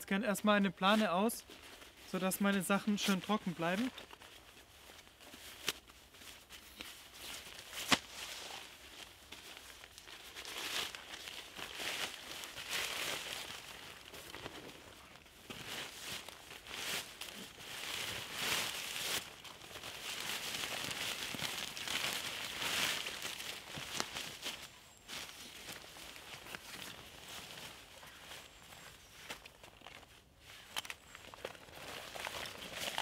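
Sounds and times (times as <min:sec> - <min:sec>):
tarp crinkling and rustling: 0:00.8 - 0:33.0.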